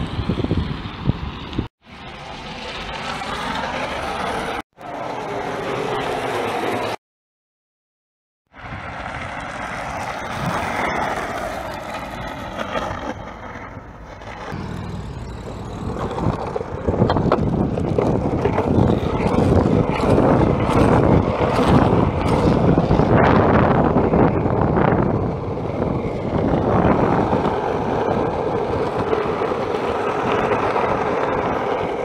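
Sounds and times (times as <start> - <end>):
longboard wheels rolling on asphalt: 0.0 - 7.0, 8.5 - 32.0.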